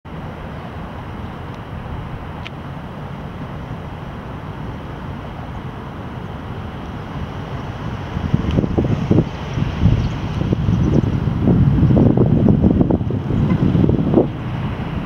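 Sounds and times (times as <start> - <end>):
distant jet engines rumbling: 0.1 - 15.0.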